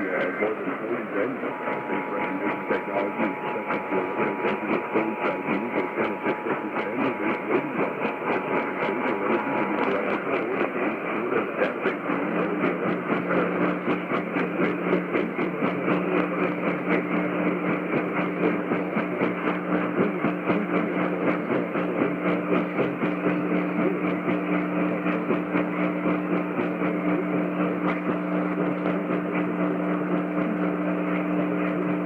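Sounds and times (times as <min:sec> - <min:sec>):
crackling radio static: 0:00.0 - 0:32.0
low steady hum: 0:00.0 - 0:32.0.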